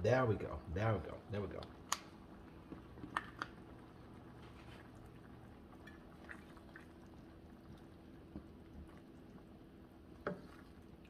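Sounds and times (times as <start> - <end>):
faint simmering in a skillet: 0.1 - 11.0.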